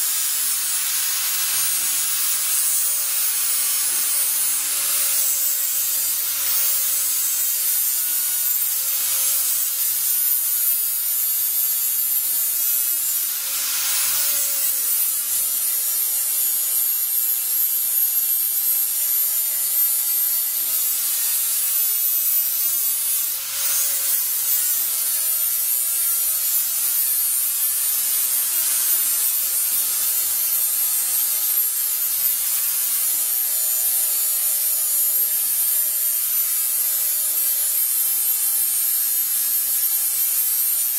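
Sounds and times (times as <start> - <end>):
angle grinder grinding steel: 0.0 - 40.9.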